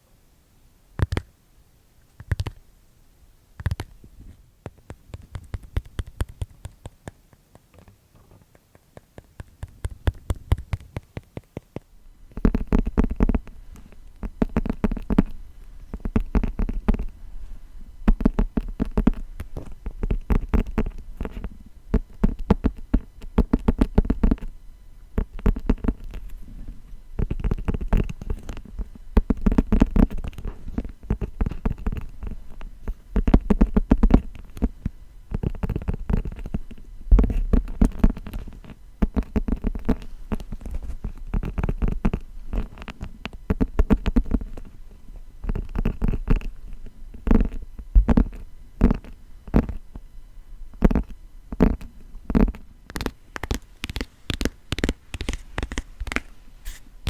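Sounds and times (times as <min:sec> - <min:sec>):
rapid tapping on a book: 0:01.0 - 0:01.3, 0:02.2 - 0:02.6, 0:03.6 - 0:04.0, 0:04.6 - 0:17.2, 0:18.0 - 0:24.5, 0:25.1 - 0:44.8, 0:45.4 - 0:49.8, 0:50.8 - 0:56.8.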